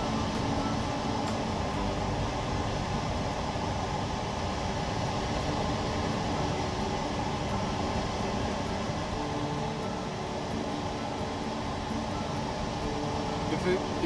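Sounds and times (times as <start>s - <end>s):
faint steady tones: 0.0s - 14.0s
machinery hum and whir: 0.0s - 14.0s.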